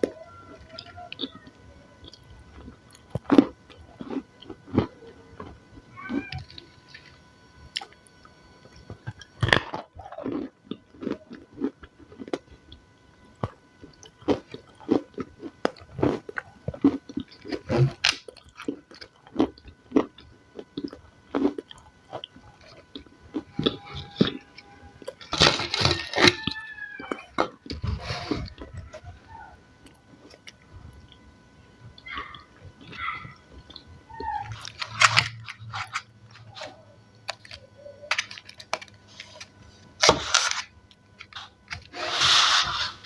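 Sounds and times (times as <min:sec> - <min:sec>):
crunchy chewing of salad: 0:00.0 - 0:29.0, 0:29.8 - 0:43.0.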